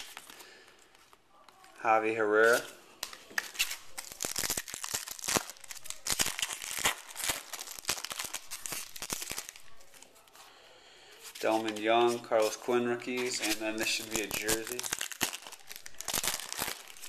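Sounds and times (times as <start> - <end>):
paper wrapper tearing and crinkling: 0.0 - 0.4, 2.0 - 10.2, 11.2 - 17.0.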